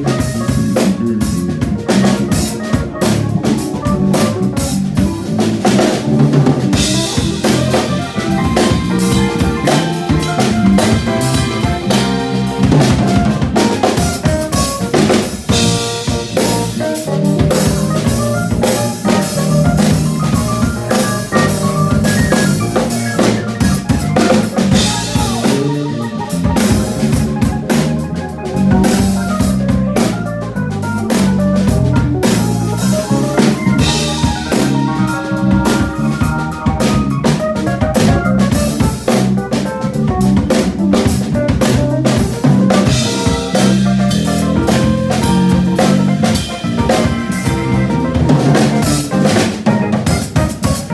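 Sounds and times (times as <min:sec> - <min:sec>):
low bass line: 0:00.0 - 0:50.1
drum kit groove: 0:00.0 - 0:50.9
electric keyboard chords: 0:00.0 - 0:50.9.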